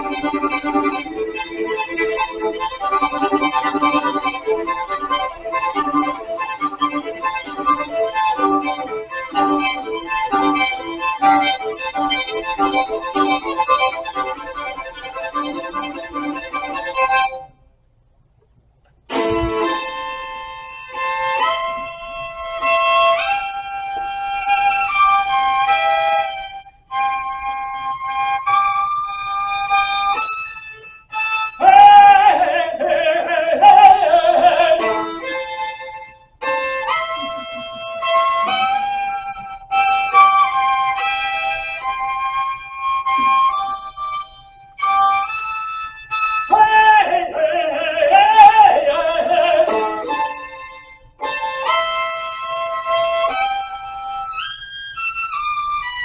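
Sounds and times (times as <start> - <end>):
violin playing slow melody: 0.0 - 17.5, 19.1 - 32.2, 34.7 - 46.9, 49.0 - 56.0.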